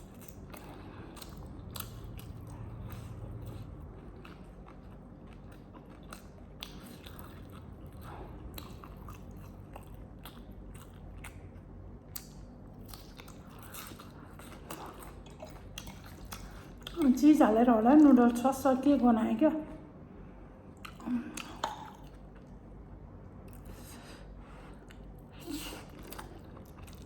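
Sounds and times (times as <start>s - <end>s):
person chewing food: 0.0s - 17.2s, 20.2s - 27.0s.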